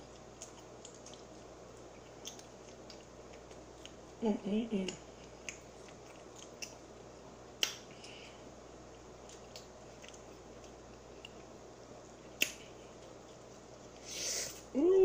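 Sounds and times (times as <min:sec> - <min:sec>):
faint chewing: 0:00.0 - 0:14.7.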